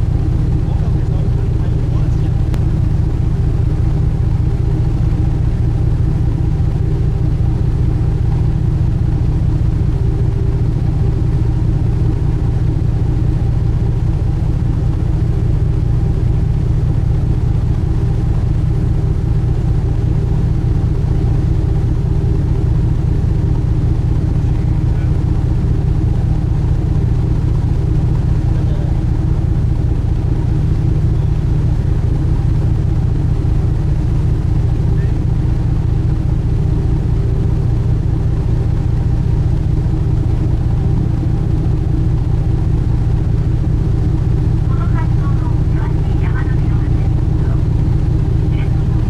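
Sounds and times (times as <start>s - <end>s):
ship engines droning: 0.0s - 49.0s.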